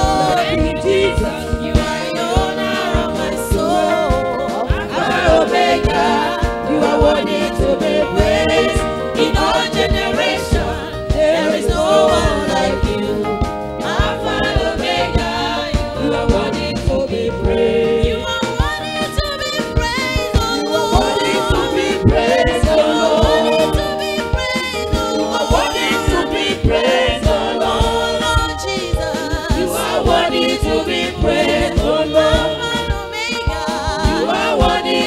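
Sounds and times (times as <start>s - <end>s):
choir and lead singer singing: 0.0s - 19.3s, 20.0s - 35.0s
band with steady beat: 0.0s - 35.0s.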